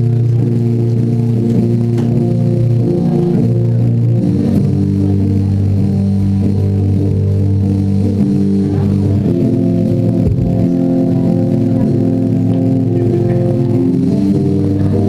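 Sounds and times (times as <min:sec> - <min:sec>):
bass guitar: 0:00.0 - 0:15.0
electric guitar chords: 0:00.0 - 0:15.0
keyboard chords: 0:00.0 - 0:15.0.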